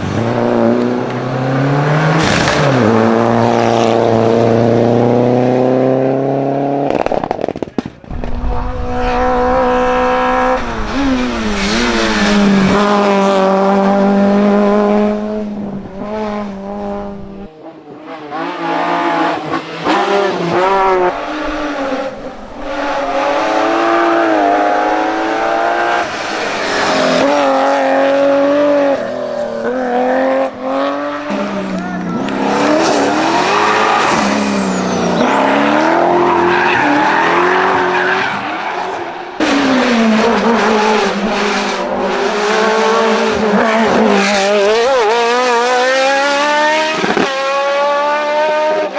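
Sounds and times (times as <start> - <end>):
race car engines revving: 0.0 - 48.9.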